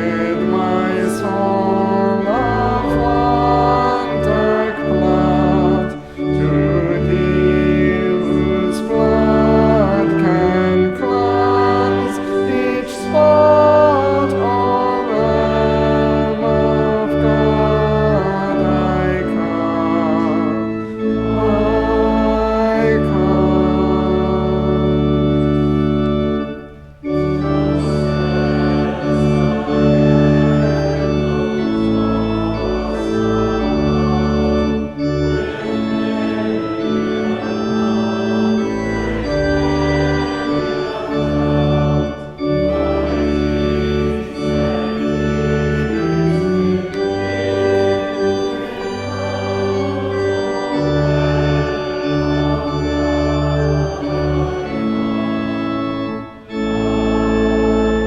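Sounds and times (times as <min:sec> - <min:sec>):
church organ playing hymn: 0:00.0 - 0:58.0.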